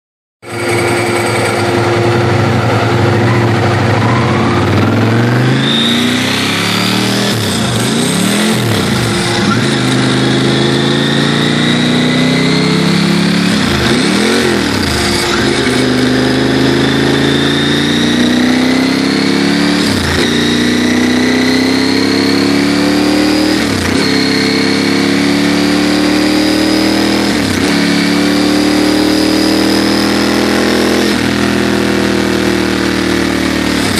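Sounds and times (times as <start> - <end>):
motorcycle engine idling and revving: 0.4 - 33.9.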